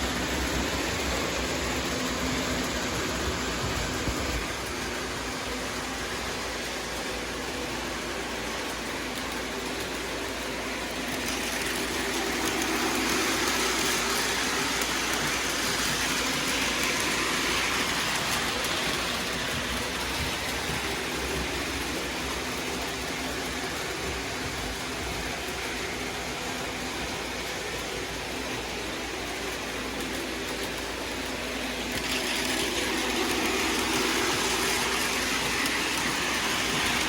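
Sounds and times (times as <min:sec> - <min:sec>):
train wheels rushing on rail: 0:00.0 - 0:37.0.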